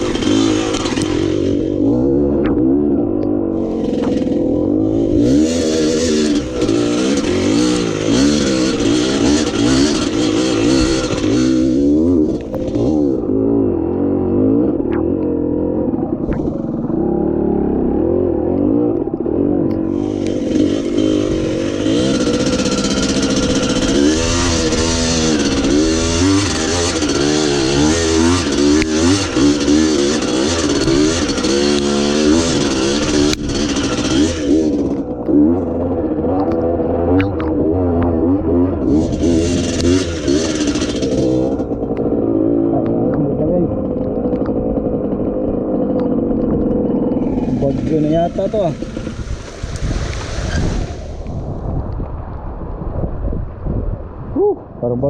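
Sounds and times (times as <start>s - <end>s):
dirt bike engine revving: 0.0s - 51.8s.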